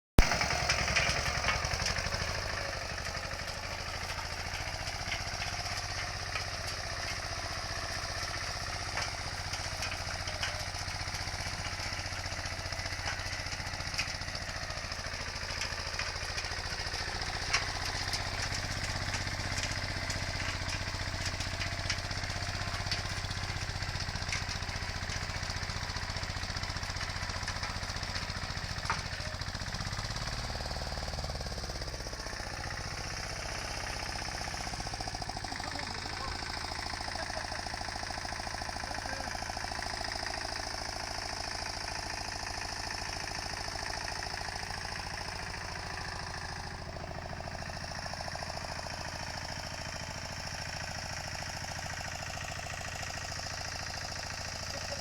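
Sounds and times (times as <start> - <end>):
walking tractor engine running: 0.2 - 55.0.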